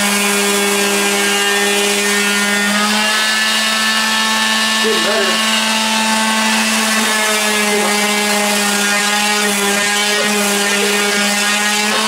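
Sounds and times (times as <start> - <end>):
electric palm sander running: 0.0 - 12.0.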